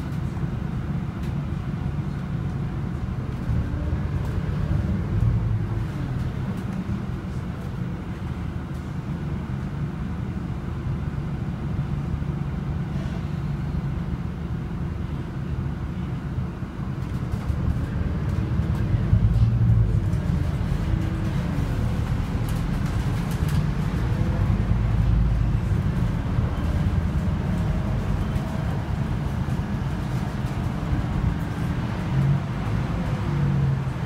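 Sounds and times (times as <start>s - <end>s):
bus engine deep rumble: 0.0s - 34.0s
road noise: 0.0s - 34.0s.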